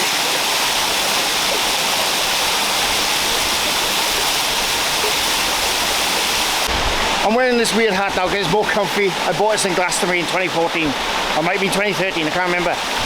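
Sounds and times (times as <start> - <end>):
waterfall crashing: 0.0 - 13.0.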